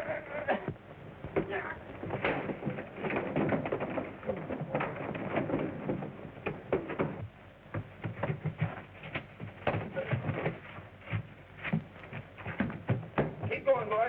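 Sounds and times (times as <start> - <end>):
rapid knocks and thumps: 0.5 - 14.0.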